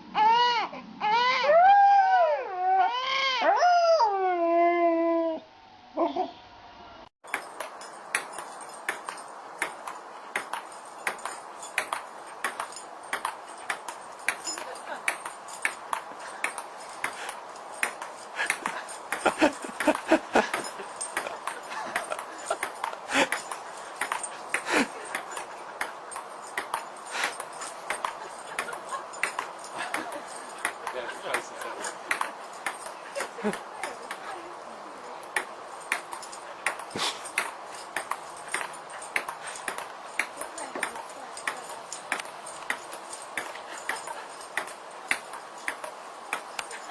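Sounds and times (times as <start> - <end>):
sharp metallic clicks and taps: 7.3 - 34.3, 35.3 - 46.8
steady hiss: 7.4 - 46.9.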